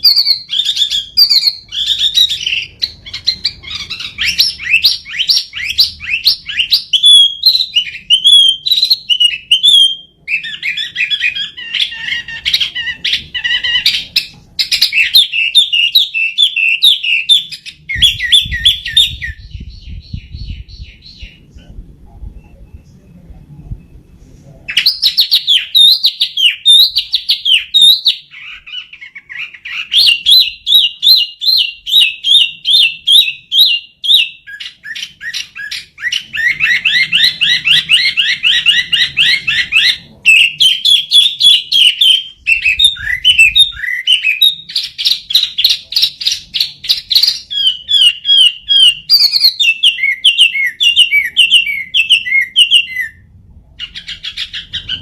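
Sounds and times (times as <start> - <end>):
songbird whistling song: 0.0 - 55.0.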